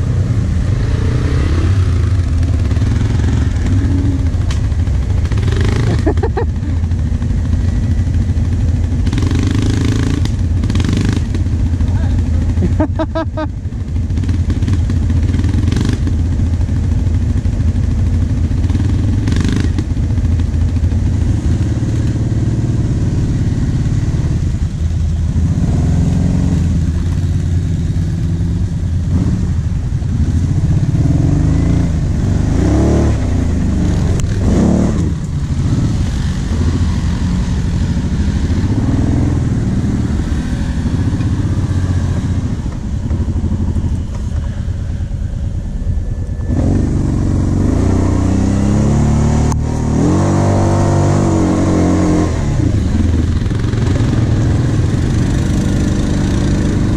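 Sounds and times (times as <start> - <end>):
atv engines revving: 0.0 - 56.9.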